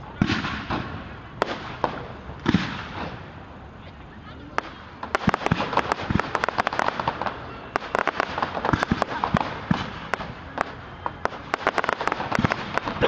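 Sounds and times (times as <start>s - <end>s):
fireworks bangs and crackling pops: 0.0s - 3.4s, 4.5s - 13.0s.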